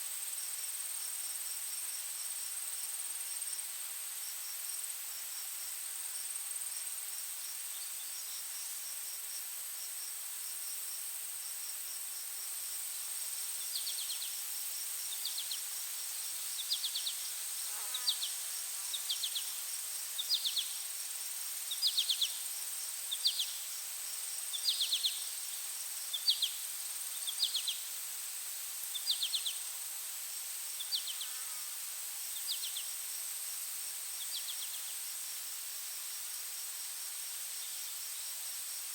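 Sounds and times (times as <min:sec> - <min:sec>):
pulsing insect chirp: 0:04.8 - 0:38.8.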